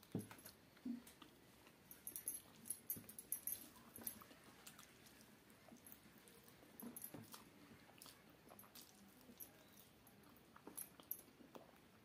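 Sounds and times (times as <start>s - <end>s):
chewing: 0.3s - 12.0s.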